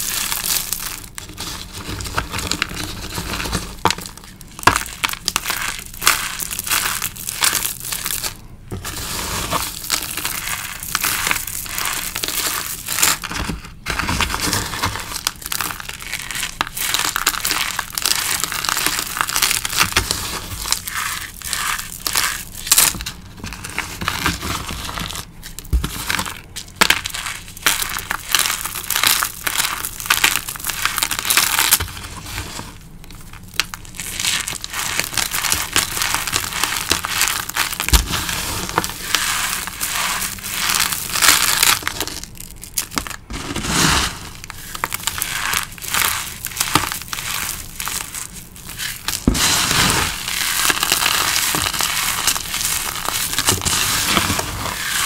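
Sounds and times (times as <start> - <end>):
hands crushing crumbly chalk: 0.0 - 55.0.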